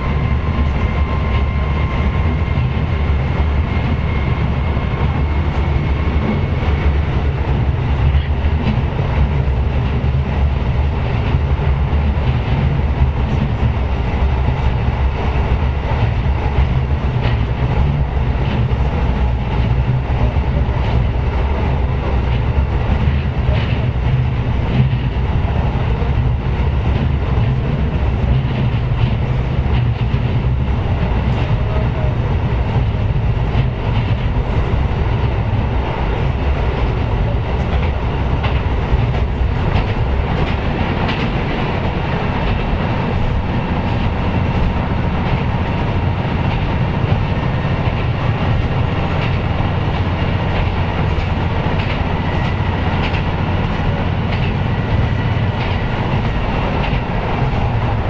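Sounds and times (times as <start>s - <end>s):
clack of rail joints: 0.0s - 58.0s
diesel railcar engine drone: 0.0s - 58.0s
wheel-on-rail noise: 0.0s - 58.0s.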